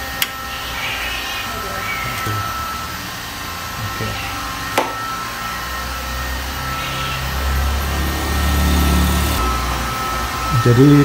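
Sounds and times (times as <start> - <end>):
blower whooshing: 0.0 - 11.0
low hum: 0.0 - 11.0.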